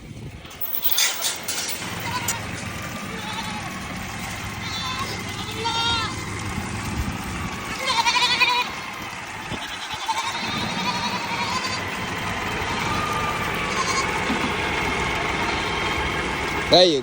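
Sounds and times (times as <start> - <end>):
tractor engine running: 0.0 - 17.0
goats bleating: 1.7 - 6.4, 7.4 - 16.7.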